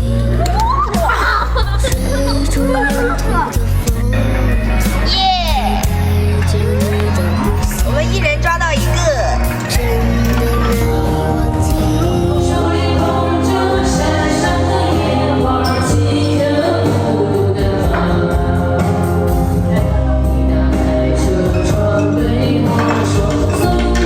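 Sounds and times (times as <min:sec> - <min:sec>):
song with singing over bass: 0:00.0 - 0:24.0.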